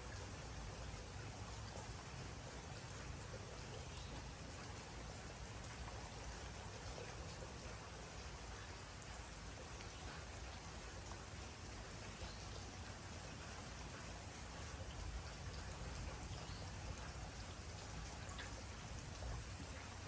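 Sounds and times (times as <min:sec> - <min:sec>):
steady rainfall hiss: 0:00.0 - 0:20.0.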